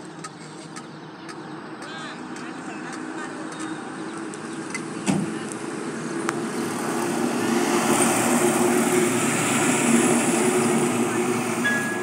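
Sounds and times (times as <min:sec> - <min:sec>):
road traffic: 0:00.0 - 0:12.0
motorcycle passing: 0:01.7 - 0:12.0.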